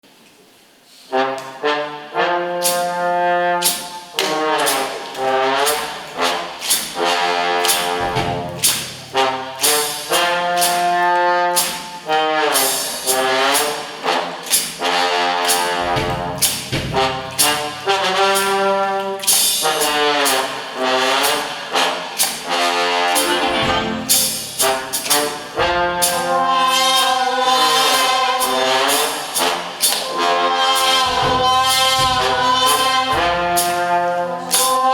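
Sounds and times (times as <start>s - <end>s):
brass band playing blues: 1.1s - 34.9s.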